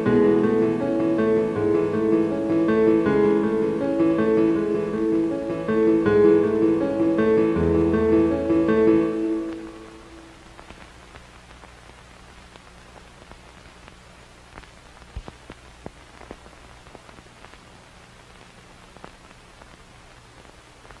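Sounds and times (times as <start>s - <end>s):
crackling static hiss: 0.0s - 21.0s.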